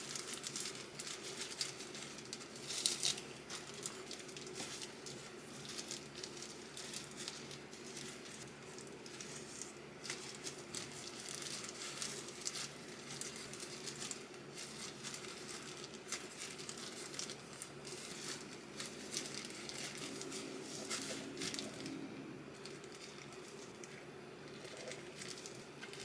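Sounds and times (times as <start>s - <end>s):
faint steady hum: 0.0s - 26.0s
rustling and crinkling: 0.0s - 26.0s.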